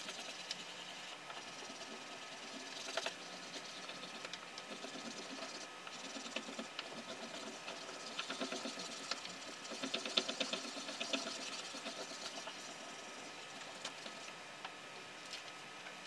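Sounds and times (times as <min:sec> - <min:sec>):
paper rubbed by hand scratching: 0:00.0 - 0:13.0.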